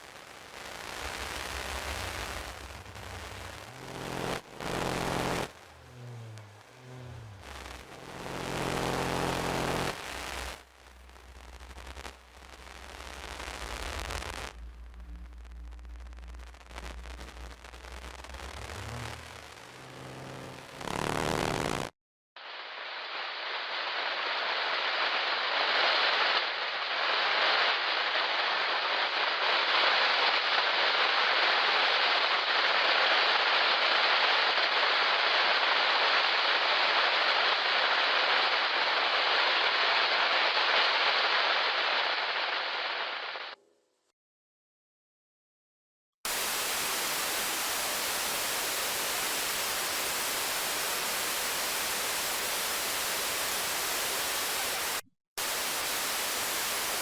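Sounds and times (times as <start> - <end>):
bright static hiss: 0.0 - 43.6, 46.3 - 57.0
muffled static hiss: 0.0 - 43.6, 46.3 - 57.0.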